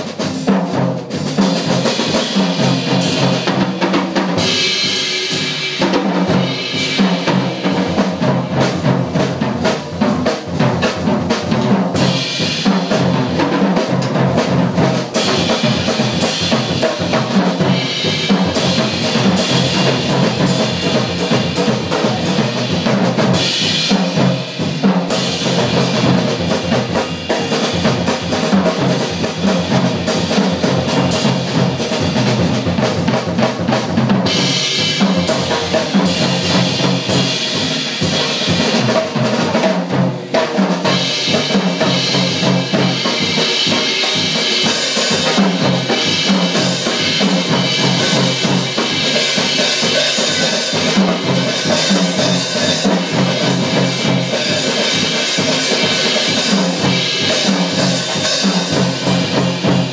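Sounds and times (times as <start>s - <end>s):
drum kit playing densely: 0.0s - 59.9s
live jazz: 0.0s - 59.9s.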